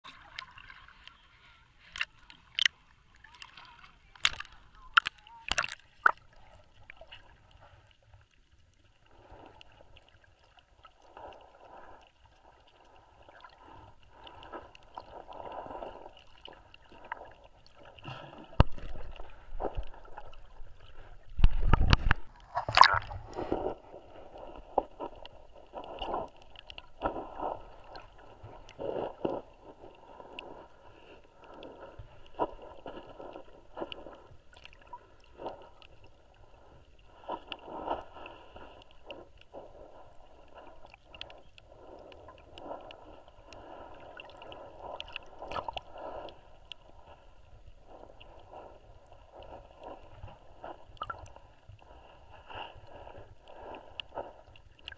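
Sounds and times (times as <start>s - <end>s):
underwater water swishing: 0.0s - 54.9s.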